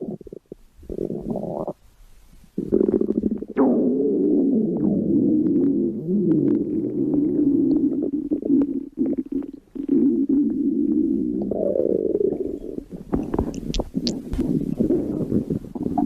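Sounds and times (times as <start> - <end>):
stomach growling and gurgling: 0.0 - 1.8, 2.6 - 16.0.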